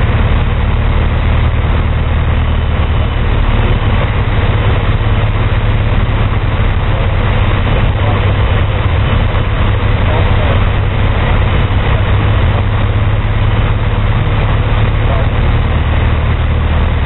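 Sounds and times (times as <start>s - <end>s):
aircraft engine drone: 0.0s - 17.0s
steady rushing noise: 0.0s - 17.0s.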